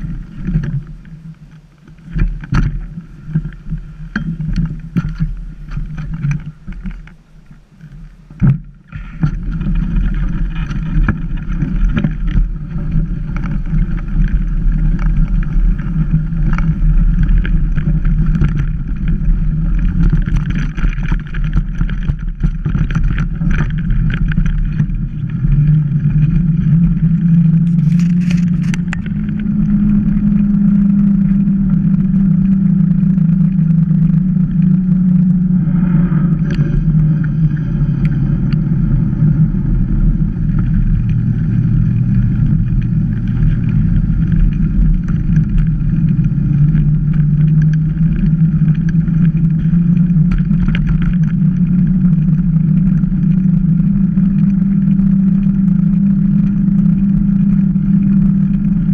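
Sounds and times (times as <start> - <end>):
bike tyre rumble on gravel: 0.0 - 58.9
steady hum: 0.0 - 58.9
wind rush on microphone: 0.0 - 58.9.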